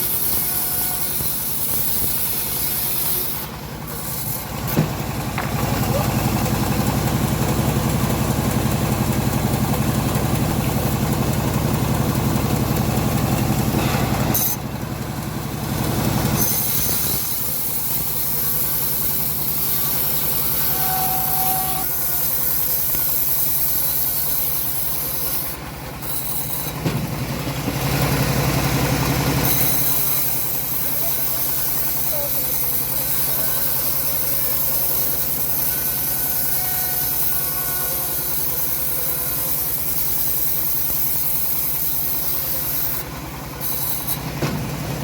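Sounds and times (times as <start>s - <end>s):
saw blade hissing through wood: 0.0s - 6.9s, 10.4s - 14.7s, 15.4s - 26.8s, 27.9s - 44.3s
engine drone: 0.0s - 45.0s.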